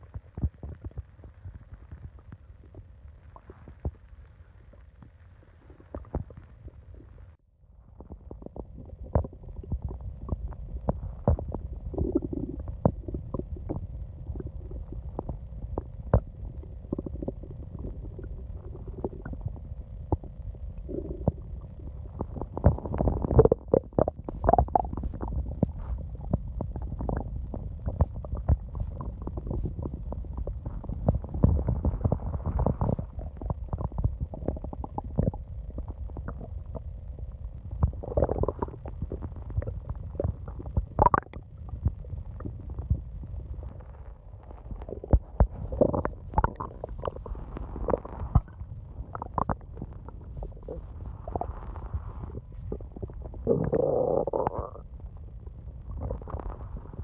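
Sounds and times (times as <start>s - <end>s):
stomach growling and gurgling: 0.0s - 57.0s.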